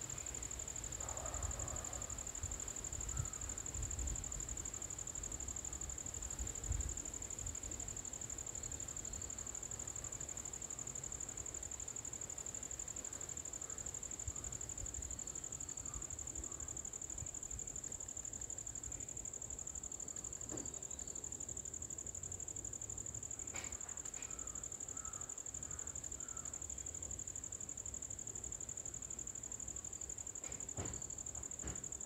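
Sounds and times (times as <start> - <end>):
high-pitched insect trill: 0.0 - 32.0.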